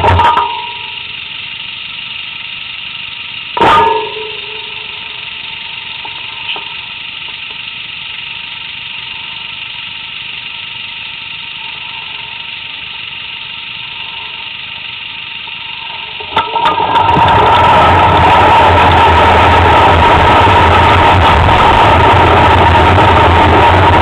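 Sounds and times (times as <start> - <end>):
engine idling: 0.0 - 24.0
high whine: 0.0 - 24.0.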